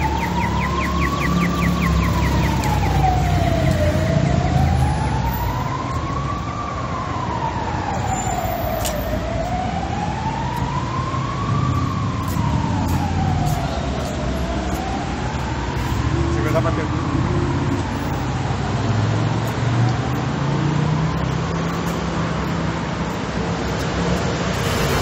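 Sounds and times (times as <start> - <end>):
emergency siren wailing: 0.0 - 25.0
street traffic rumble: 0.0 - 25.0.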